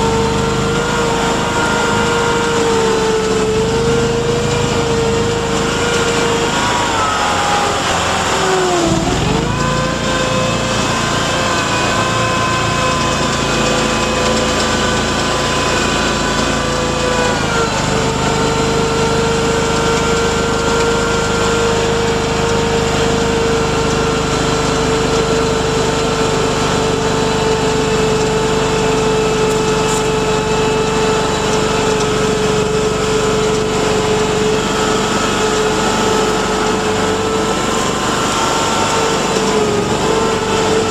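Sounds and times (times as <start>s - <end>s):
vehicle engine whining drone: 0.0s - 40.9s.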